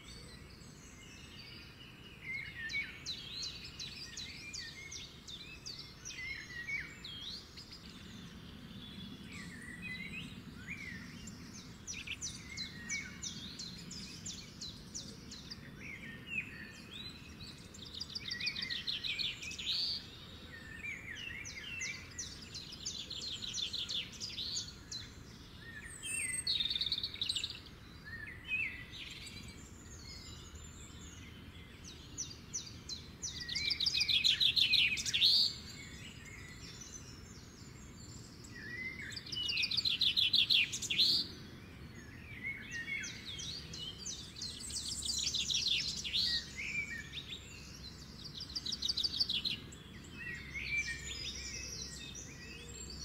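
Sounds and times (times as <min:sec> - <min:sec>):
songbirds singing trills: 0:00.0 - 0:53.0.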